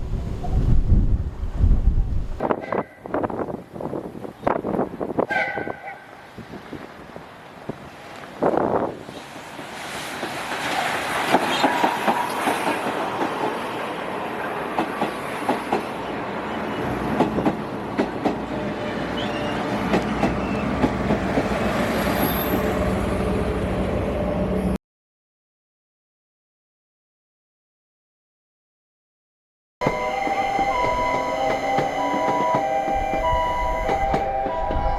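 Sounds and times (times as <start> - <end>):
train passing: 0.0 - 24.8, 29.8 - 34.9.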